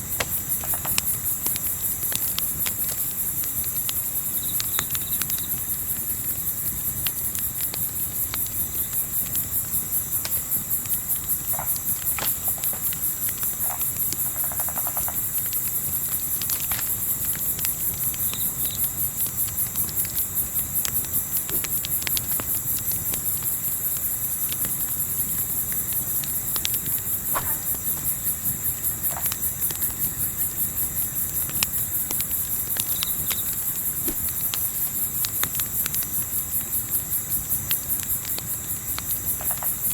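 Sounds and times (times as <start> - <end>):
campfire popping and crackling: 0.0 - 39.9
night insects chirping: 0.0 - 39.9.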